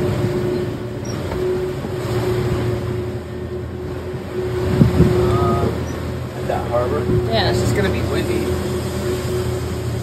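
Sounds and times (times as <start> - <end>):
diesel engine droning: 0.0 - 10.0
waves washing: 0.0 - 10.0
wind buffeting microphone: 0.0 - 10.0.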